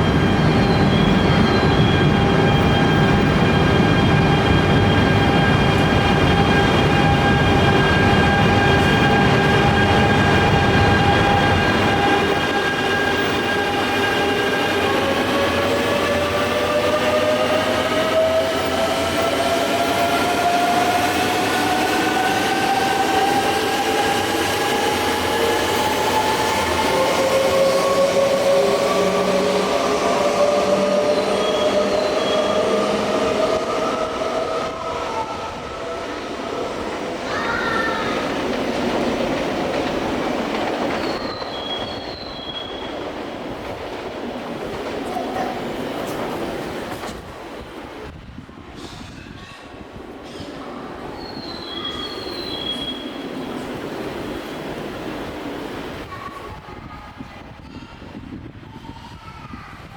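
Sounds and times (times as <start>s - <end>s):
train wheels rumbling over rails: 0.0s - 59.9s.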